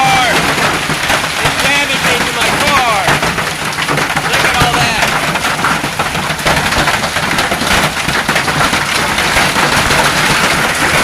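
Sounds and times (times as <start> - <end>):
hail and heavy rain pelting: 0.0 - 11.0.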